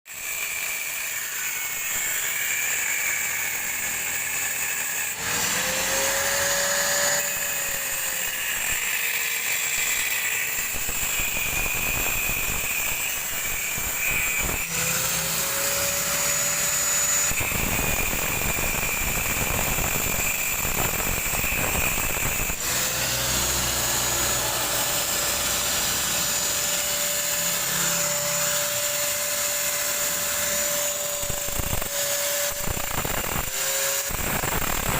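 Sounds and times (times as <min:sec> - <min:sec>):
power tool motor whine: 0:00.1 - 0:34.9
rough cutting of metal: 0:00.1 - 0:34.9.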